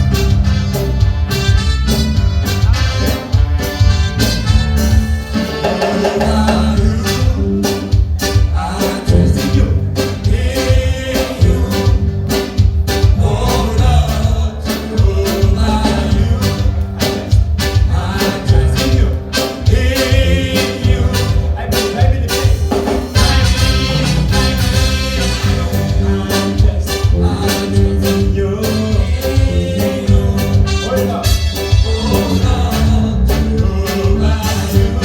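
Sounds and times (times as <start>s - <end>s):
gospel singing with band: 0.0s - 35.0s
steady drum beat: 0.0s - 35.0s.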